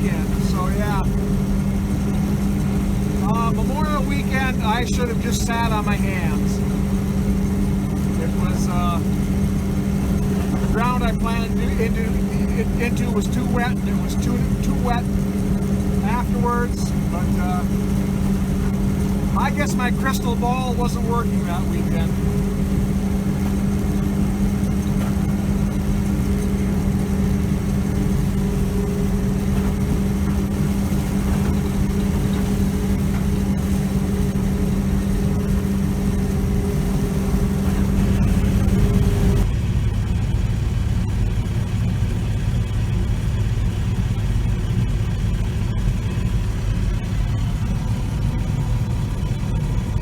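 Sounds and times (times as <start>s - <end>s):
combine harvester engine drone: 0.0s - 50.0s.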